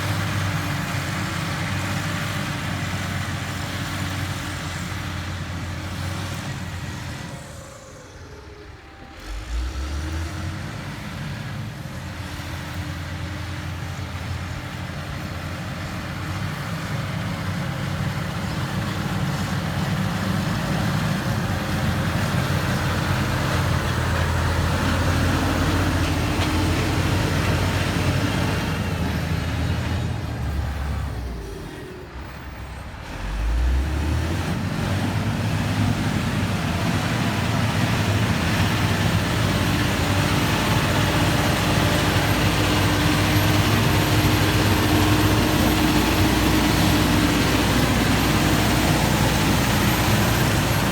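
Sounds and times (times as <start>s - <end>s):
heavy construction machinery running: 0.0s - 50.9s.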